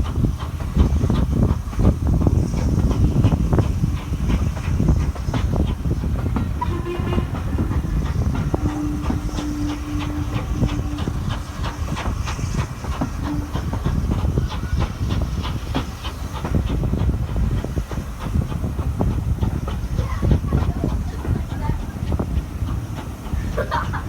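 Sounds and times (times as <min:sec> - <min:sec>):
hiss of steam: 0:00.0 - 0:24.0
steam train low rumble: 0:00.0 - 0:24.0.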